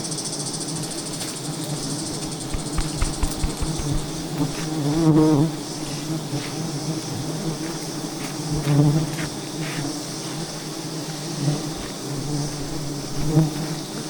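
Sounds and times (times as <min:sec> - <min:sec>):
bees buzzing: 0:01.5 - 0:14.0.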